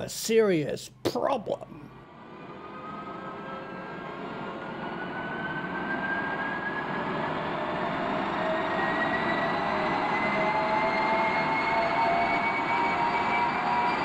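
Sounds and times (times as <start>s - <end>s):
jet engine whine rising: 0.0s - 14.0s.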